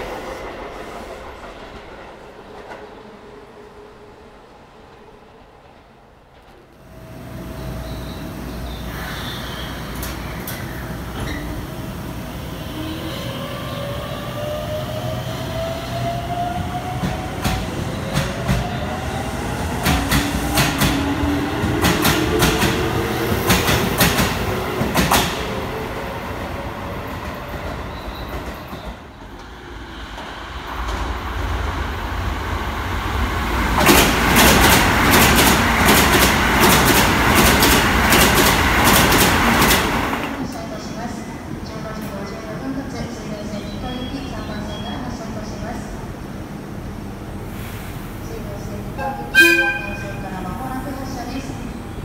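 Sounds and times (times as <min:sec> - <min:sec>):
train rumbling past at speed: 0:00.0 - 0:43.8.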